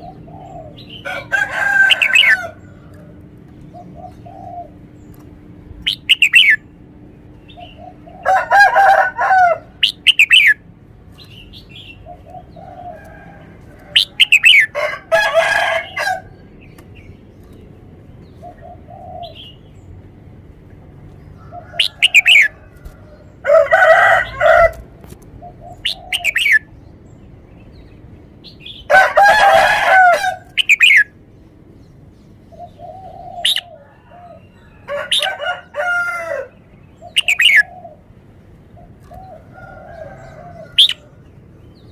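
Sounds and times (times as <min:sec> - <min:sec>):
bird calls: 0:00.0 - 0:41.9.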